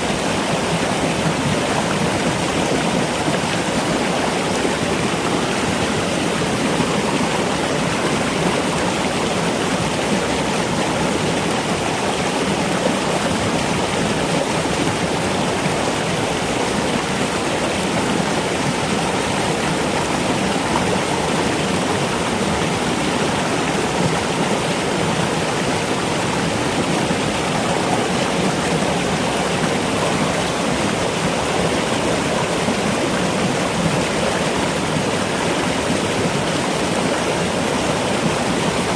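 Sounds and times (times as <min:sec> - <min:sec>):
water flowing: 0:00.0 - 0:38.9.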